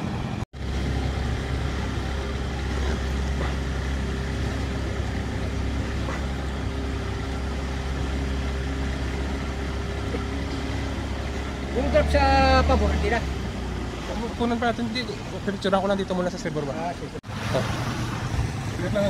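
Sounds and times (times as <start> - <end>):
boat engine low drone: 0.0 - 19.0.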